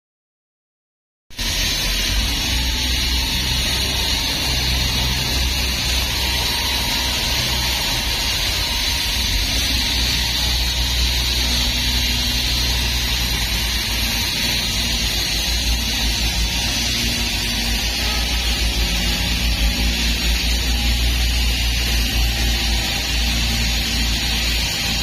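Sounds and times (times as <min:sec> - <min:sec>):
hydraulic power unit drone: 0:01.3 - 0:25.0
wire saw cutting concrete: 0:01.3 - 0:25.0.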